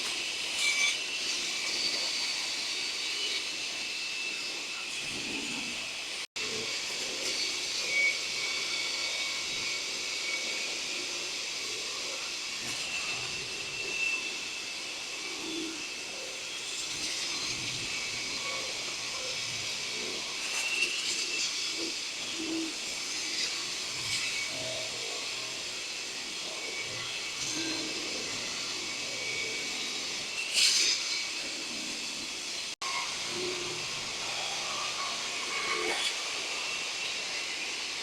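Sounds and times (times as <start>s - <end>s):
concrete saw cutting concrete: 0.0s - 38.0s.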